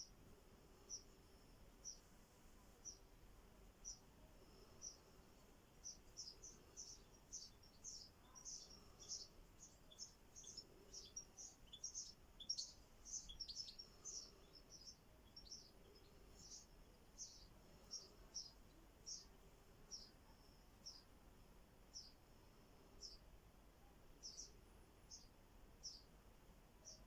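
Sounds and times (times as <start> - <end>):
faint high-pitched bird chirps: 0.0 - 0.2, 0.8 - 21.2, 21.8 - 27.0.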